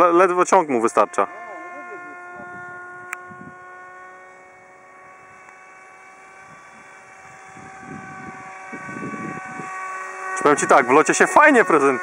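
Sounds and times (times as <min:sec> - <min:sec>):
model plane motor whining: 0:00.0 - 0:12.0.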